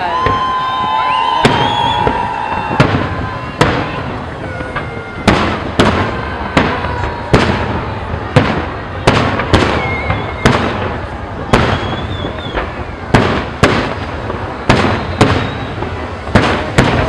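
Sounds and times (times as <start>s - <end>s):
fireworks bursting with bangs: 0.0s - 17.0s.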